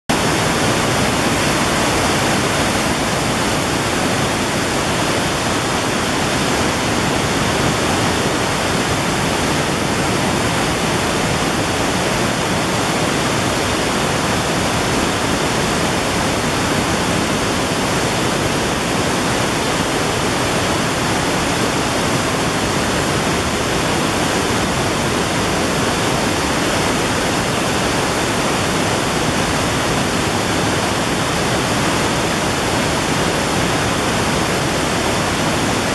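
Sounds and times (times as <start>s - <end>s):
whitewater rushing over boulders: 0.1s - 35.9s.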